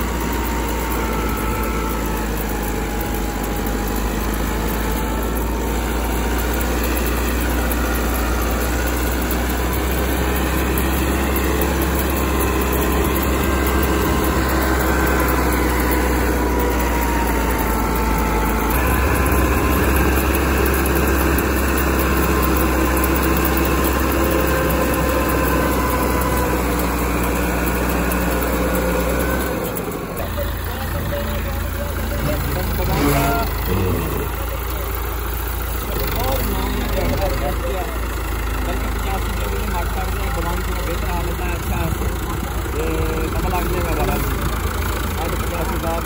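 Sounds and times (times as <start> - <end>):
tractor diesel engine under load: 0.0 - 46.0.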